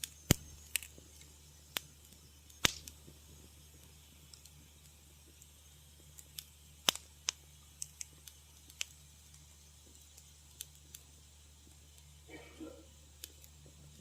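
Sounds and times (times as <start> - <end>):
faint low hum: 0.0 - 14.0
wood fire crackling: 0.0 - 14.0.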